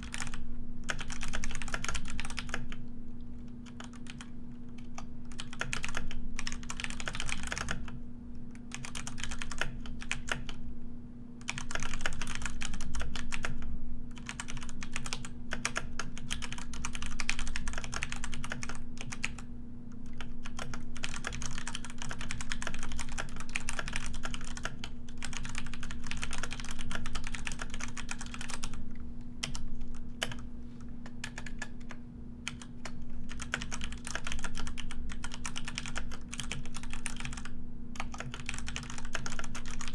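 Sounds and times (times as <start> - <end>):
keyboard typing: 0.0 - 2.8, 3.6 - 8.0, 8.7 - 10.6, 11.4 - 13.6, 14.2 - 19.4, 20.1 - 28.8, 29.4 - 39.9
steady low hum: 0.0 - 39.9.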